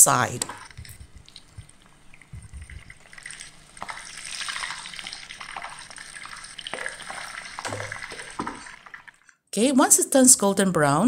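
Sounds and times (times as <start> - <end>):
food deep-frying in oil: 0.2 - 9.2.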